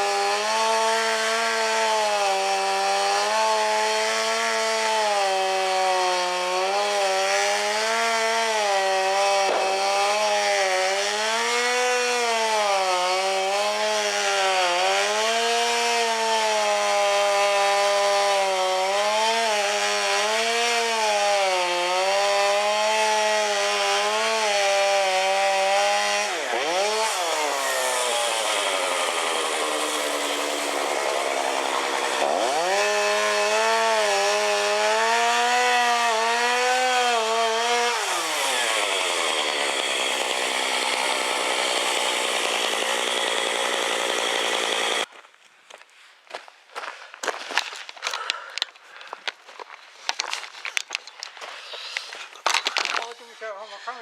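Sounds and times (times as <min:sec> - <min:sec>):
chainsaw cutting wood: 0:00.0 - 0:45.1, 0:47.3 - 0:54.0.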